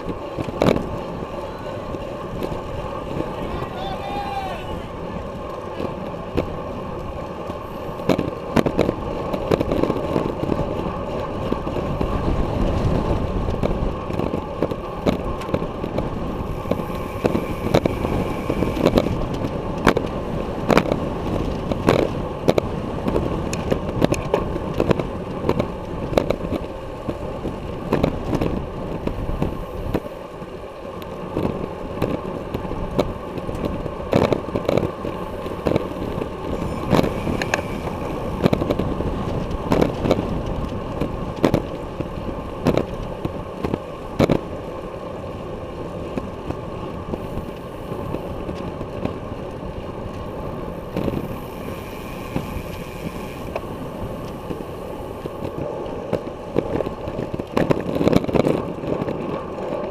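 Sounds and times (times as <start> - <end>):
bike clicks and rattles: 0.0 - 59.9
bike tyres rumbling on concrete: 0.0 - 59.9
wind noise: 0.0 - 59.9.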